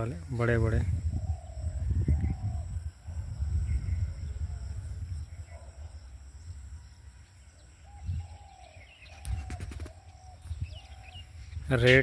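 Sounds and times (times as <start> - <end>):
faint bird calls: 0.4 - 12.0
low microphone rumble: 0.5 - 11.7.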